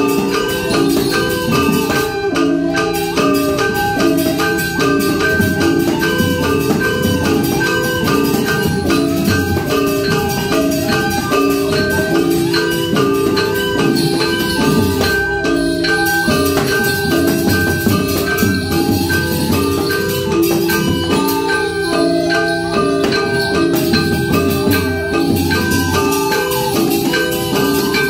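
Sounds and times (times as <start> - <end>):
bamboo flute: 0.0 - 28.0
bronze mallet percussion: 0.0 - 28.0.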